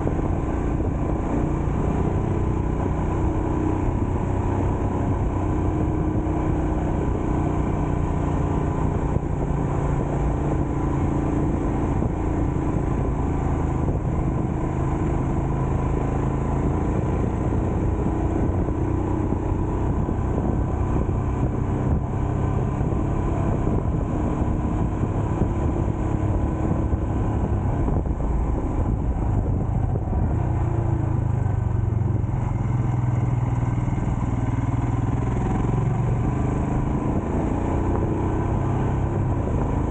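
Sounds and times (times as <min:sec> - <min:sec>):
road noise: 0:00.0 - 0:39.9
vehicle engine running: 0:00.0 - 0:39.9
wind noise: 0:00.0 - 0:39.9.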